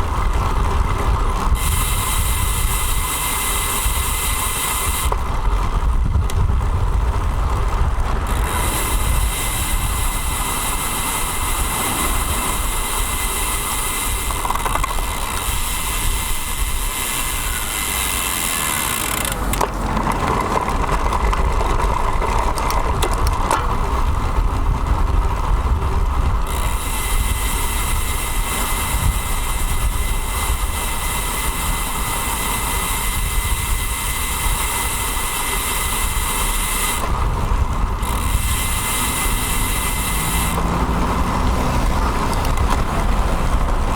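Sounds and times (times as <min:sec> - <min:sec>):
road and traffic noise: 0:00.0 - 0:43.9
wind rushing over microphone: 0:00.0 - 0:43.9.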